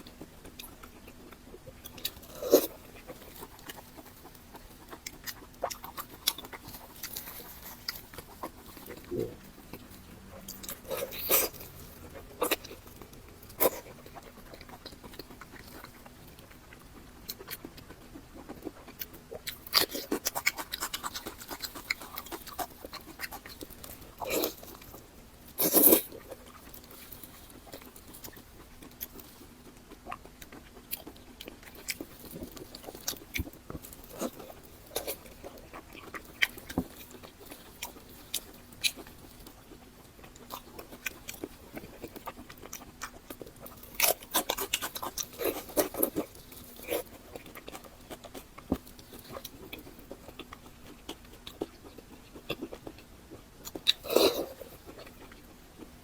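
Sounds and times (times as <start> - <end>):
wet chewing and lip-smacks: 0.0 - 56.0.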